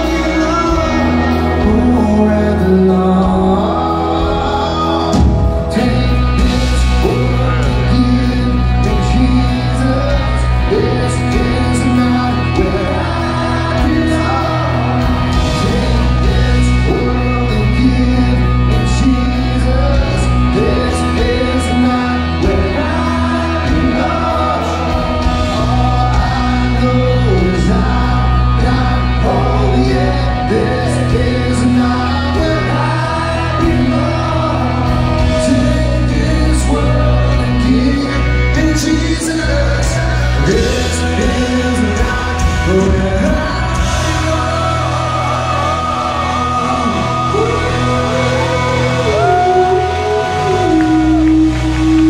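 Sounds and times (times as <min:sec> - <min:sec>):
lead vocal singing: 0:00.0 - 0:52.0
live rock band playing: 0:00.0 - 0:52.0.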